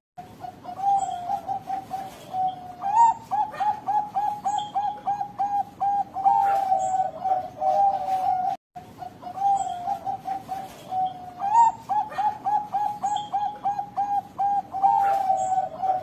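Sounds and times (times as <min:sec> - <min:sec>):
dove cooing: 0:00.2 - 0:16.0.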